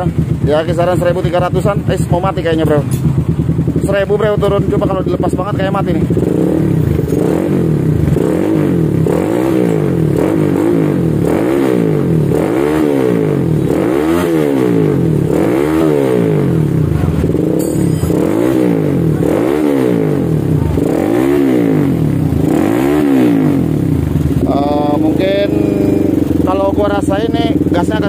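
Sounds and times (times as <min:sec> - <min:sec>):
motorcycle engine running at low revs: 0:00.0 - 0:28.0.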